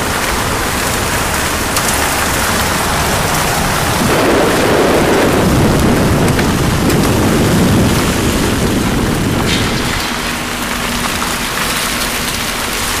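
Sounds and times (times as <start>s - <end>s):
car road noise: 0.0s - 13.0s
wind buffeting microphone: 0.0s - 13.0s.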